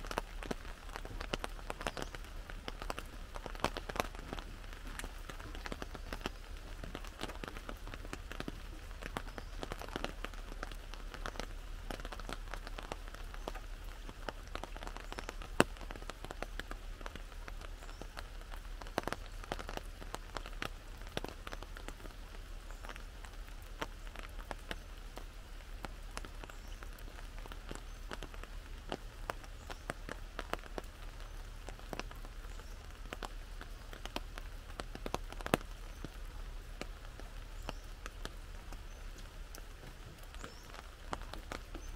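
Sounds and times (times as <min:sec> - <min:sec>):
drops ticking on fabric: 0:00.0 - 0:41.9
rain on an umbrella: 0:00.0 - 0:41.9.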